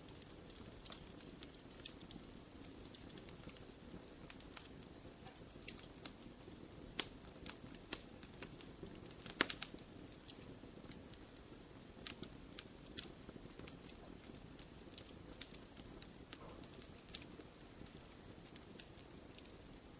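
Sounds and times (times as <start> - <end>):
low rush of flames: 0.0 - 19.9
wood fire crackling and popping: 0.0 - 19.9.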